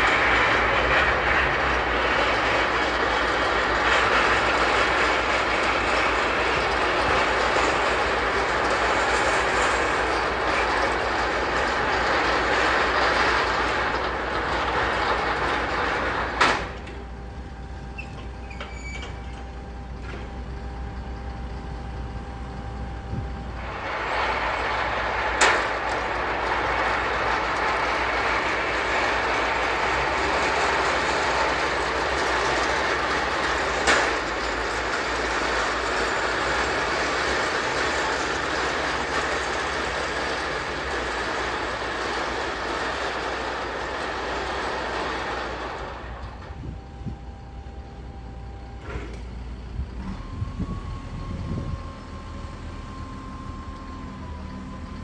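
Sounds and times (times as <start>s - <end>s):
steel wheels rolling on rails: 0.0s - 55.0s.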